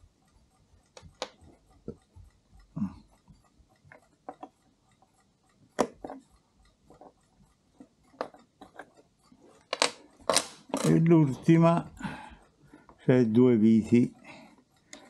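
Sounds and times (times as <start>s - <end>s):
small metallic clicks and taps: 0.0s - 11.5s, 14.1s - 15.0s.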